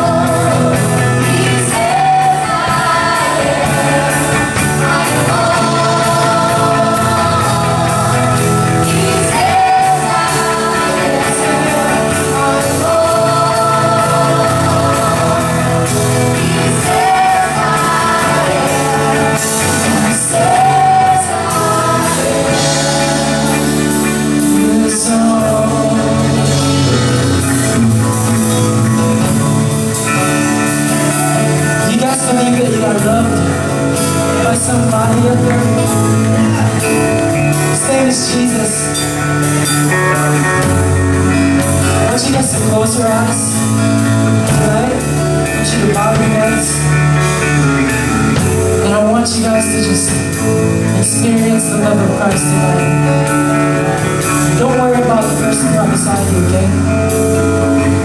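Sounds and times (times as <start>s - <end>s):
drums: 0.0s - 58.0s
guitars: 0.0s - 58.0s
person singing: 0.0s - 58.0s.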